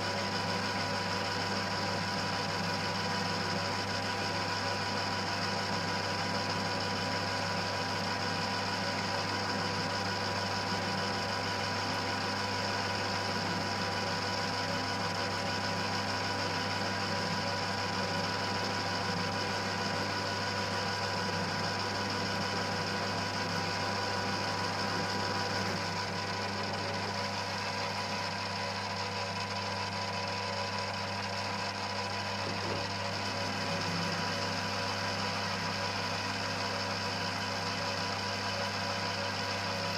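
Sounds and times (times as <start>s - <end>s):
lathe running with mechanical whirr: 0.0s - 39.9s.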